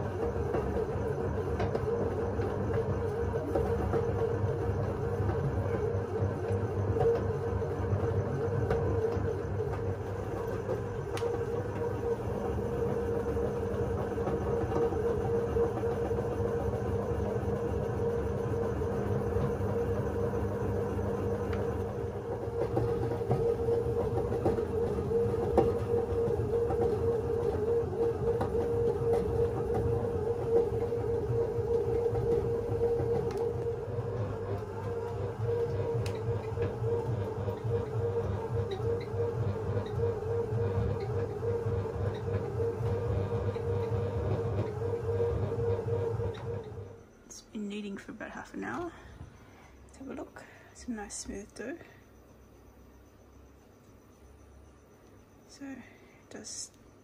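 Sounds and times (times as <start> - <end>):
paddle rumbling through dough: 0.0 - 47.0
bread maker motor humming: 0.0 - 52.6.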